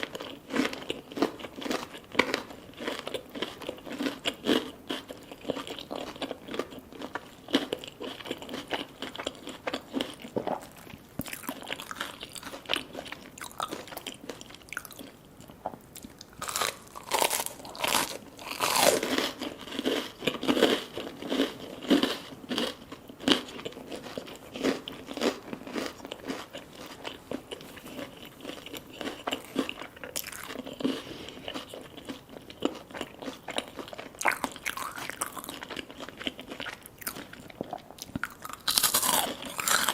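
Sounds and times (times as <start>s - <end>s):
crunching and chewing crispy food: 0.0s - 39.9s.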